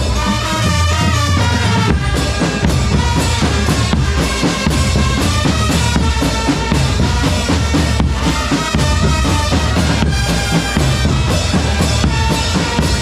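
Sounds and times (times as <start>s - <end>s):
bass drum and snare beat: 0.0s - 13.0s
loud band music: 0.0s - 13.0s.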